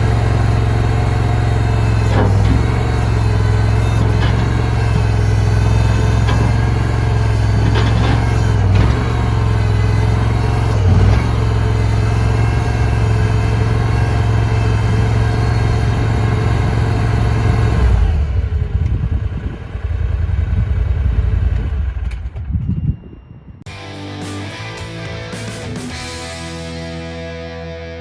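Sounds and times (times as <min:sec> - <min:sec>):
skid steer engine running: 0:00.0 - 0:22.6, 0:23.7 - 0:28.0.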